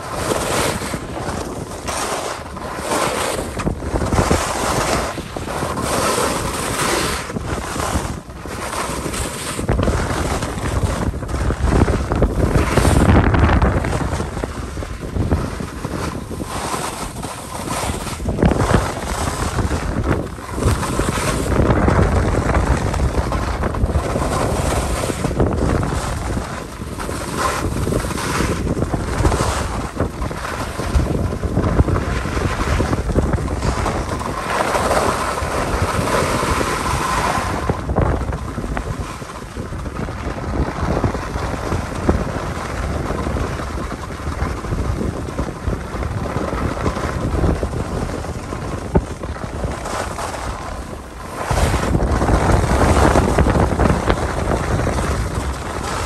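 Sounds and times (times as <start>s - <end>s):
skis sliding over snow: 0.0s - 56.0s
wind buffeting microphone: 0.0s - 56.0s.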